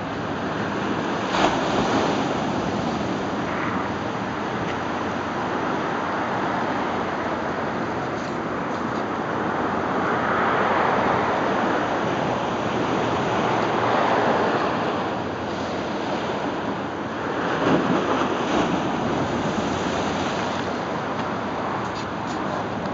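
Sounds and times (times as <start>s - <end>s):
ocean surf breaking on shore: 0.0s - 22.9s.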